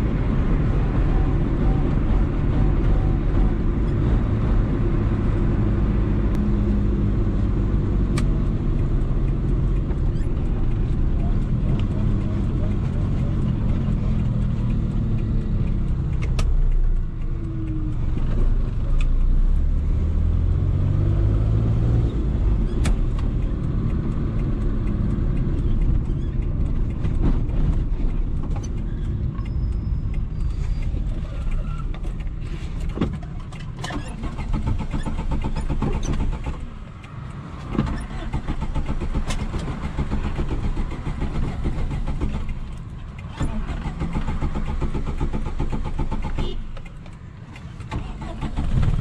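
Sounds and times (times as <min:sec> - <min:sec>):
car engine running: 0:00.0 - 0:49.0
road noise: 0:00.0 - 0:49.0.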